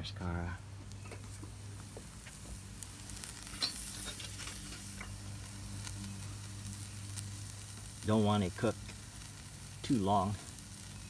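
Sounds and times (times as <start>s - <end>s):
crackles and pops: 0.8s - 11.0s
meat sizzling on grill: 0.8s - 11.0s.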